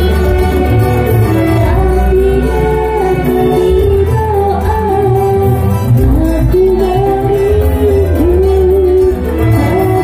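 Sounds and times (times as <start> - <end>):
electric guitar: 0.0 - 10.0
heavy bass: 0.0 - 10.0
keyboard: 0.0 - 10.0
woman singing into a microphone: 0.0 - 10.0.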